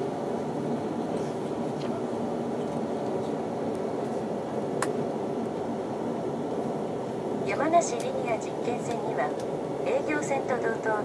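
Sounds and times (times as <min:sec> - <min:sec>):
train car rolling rumble: 0:00.0 - 0:11.0.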